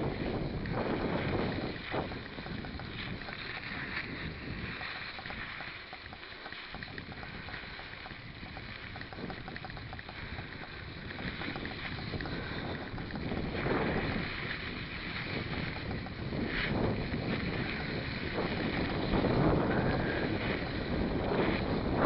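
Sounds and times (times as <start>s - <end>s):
bike tyre and drivetrain noise: 0.0s - 22.0s
rapid light ticking: 0.0s - 22.0s
wind on microphone: 0.0s - 22.0s.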